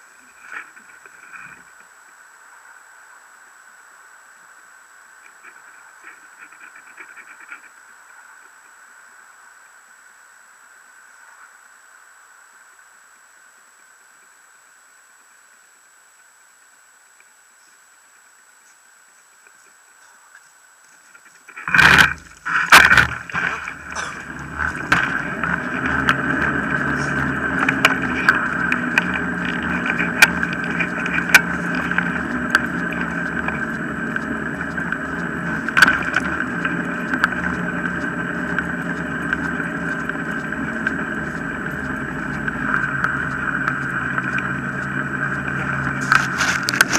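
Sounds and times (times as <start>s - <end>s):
wheels rolling on tarmac: 0.0s - 46.9s.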